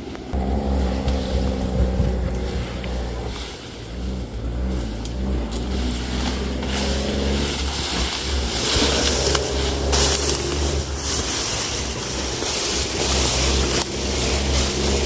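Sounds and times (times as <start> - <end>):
rushing noise: 0.0 - 15.0
vehicle engine drone: 0.0 - 15.0.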